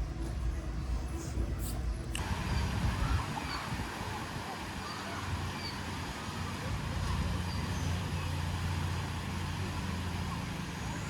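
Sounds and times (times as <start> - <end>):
street background noise: 0.0 - 11.0
vehicle engine hum: 0.0 - 11.0.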